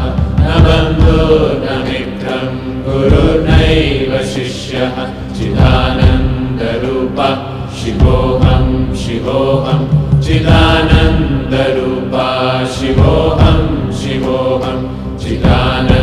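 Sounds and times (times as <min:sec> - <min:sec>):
musical backing: 0:00.0 - 0:16.0.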